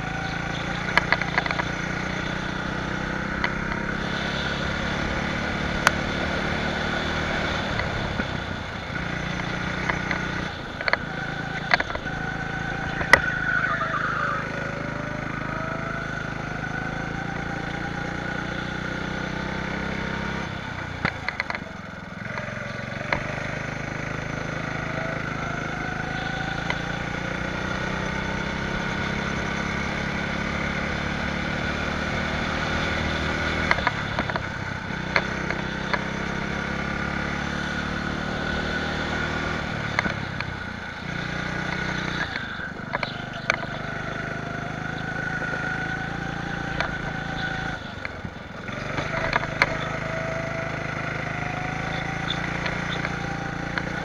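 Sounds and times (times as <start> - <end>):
go-kart engine revving: 0.0 - 54.0.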